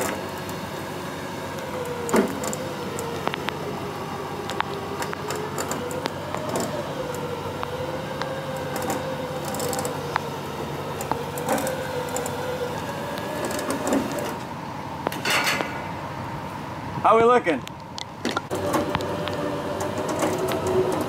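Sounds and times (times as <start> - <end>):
winch whining: 0.0 - 16.7, 18.4 - 21.0.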